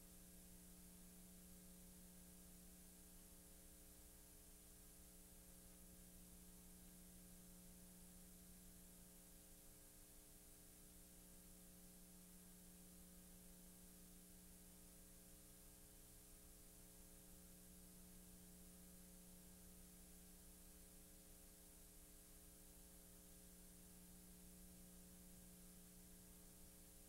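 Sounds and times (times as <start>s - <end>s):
faint electrical hum: 0.0s - 27.0s.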